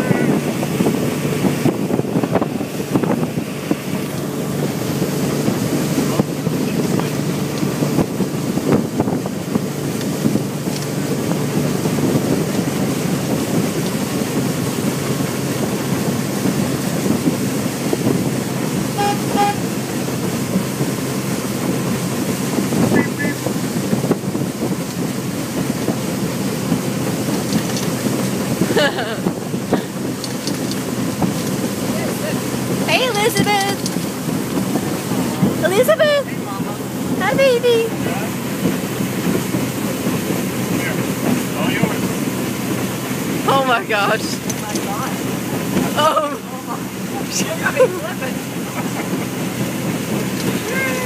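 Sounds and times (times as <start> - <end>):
motorboat engine drone: 0.0 - 51.0
water rushing past hull: 0.0 - 51.0
wind buffeting microphone: 0.0 - 51.0.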